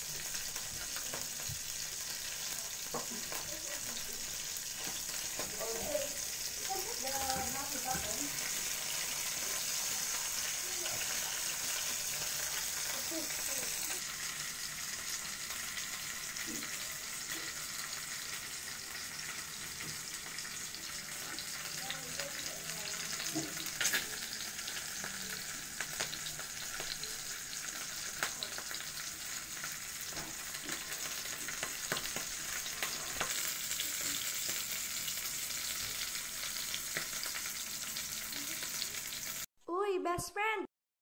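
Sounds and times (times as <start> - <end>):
fish sizzling in hot oil: 0.0 - 39.5
oil popping and crackling: 0.0 - 39.5.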